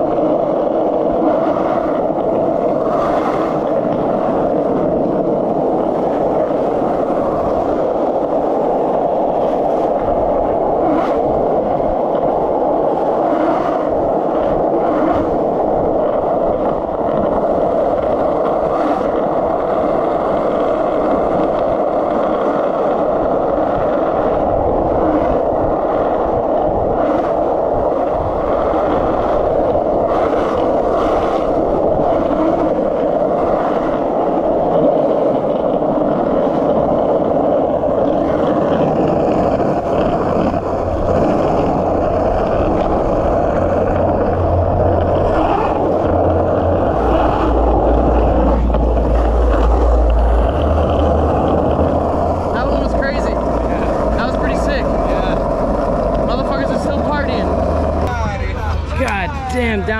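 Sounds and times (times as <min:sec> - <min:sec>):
skateboard wheels rolling: 0:00.0 - 0:59.9.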